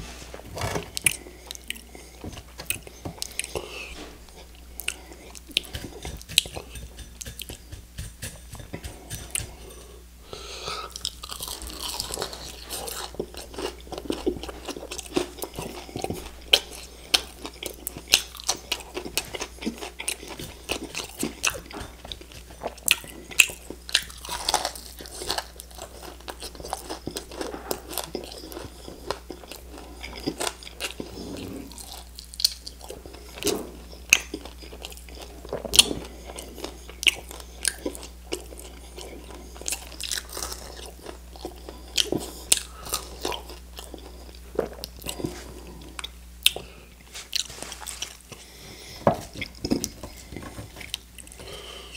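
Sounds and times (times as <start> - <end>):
chewing crispy chicken wings: 0.9 - 9.7, 10.9 - 51.7.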